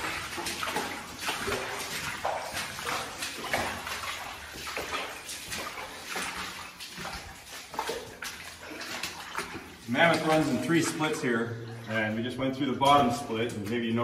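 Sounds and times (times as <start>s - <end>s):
rubber boots splashing in water: 0.0s - 14.0s.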